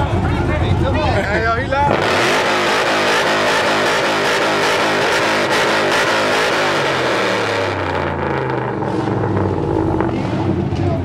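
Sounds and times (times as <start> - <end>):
truck engine revving: 1.7 - 11.0.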